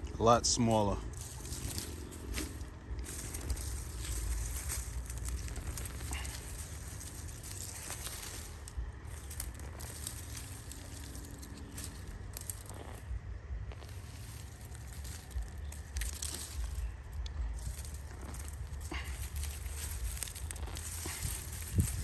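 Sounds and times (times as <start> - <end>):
dry leaves rustling and crackling: 0.0 - 22.0.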